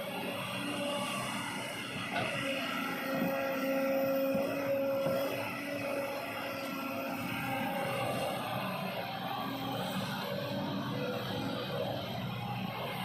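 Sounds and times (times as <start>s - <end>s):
excavator diesel engine running: 0.0s - 13.0s
steady engine whine: 0.0s - 13.0s.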